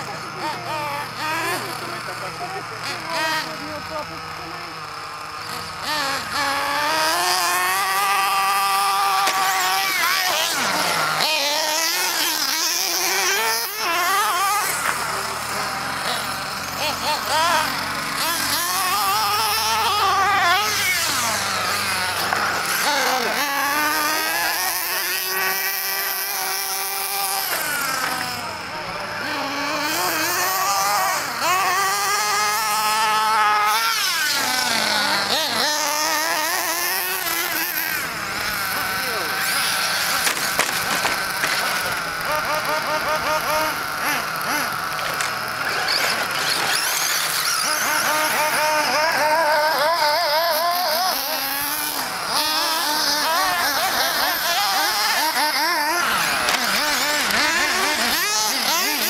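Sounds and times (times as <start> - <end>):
rc truck motor whining: 0.0 - 59.0.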